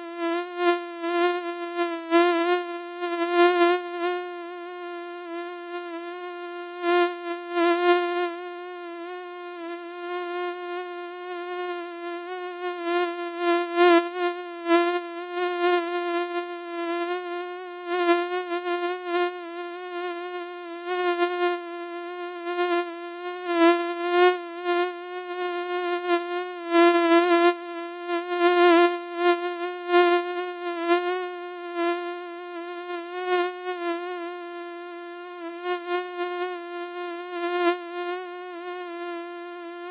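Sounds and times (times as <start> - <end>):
mosquito wingbeat whine: 0.0 - 39.9.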